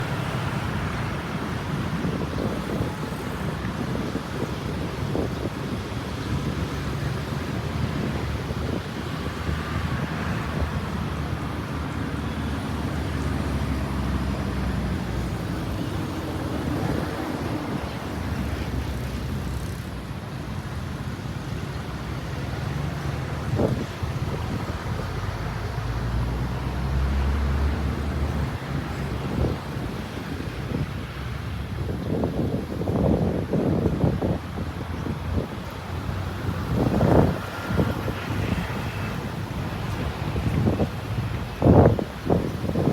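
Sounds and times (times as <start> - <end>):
road traffic rumble: 0.0 - 42.9
wind buffeting microphone: 0.0 - 42.9.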